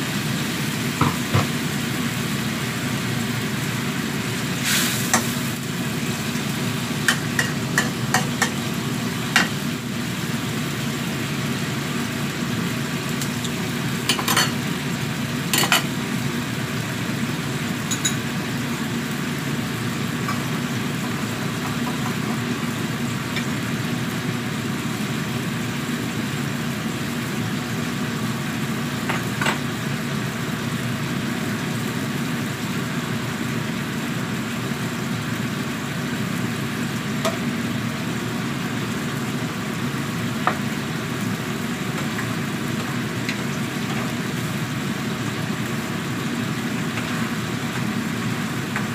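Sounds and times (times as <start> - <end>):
gas burner: 0.0 - 48.9
range hood fan rushing: 0.0 - 48.9.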